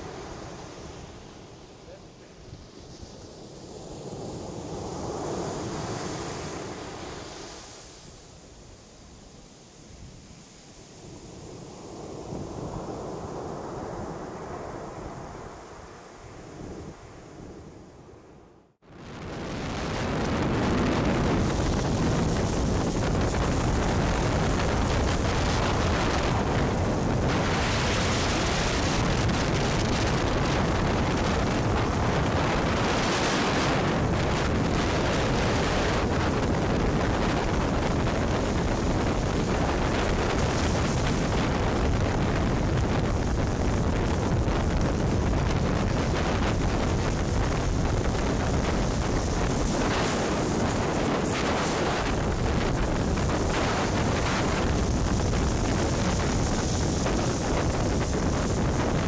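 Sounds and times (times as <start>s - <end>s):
surf breaking on a shingle beach: 0.0s - 17.7s, 18.9s - 59.0s
wind rumbling on microphone: 0.0s - 59.0s.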